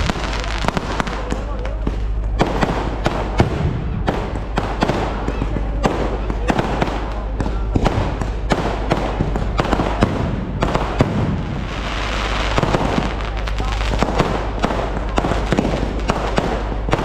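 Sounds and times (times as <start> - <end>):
fireworks bangs and crackles: 0.0 - 17.0
low rumble: 0.0 - 17.0.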